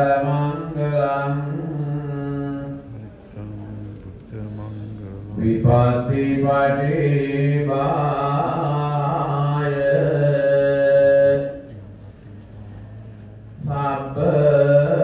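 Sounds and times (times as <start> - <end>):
man chanting: 0.0 - 11.8, 13.5 - 15.0.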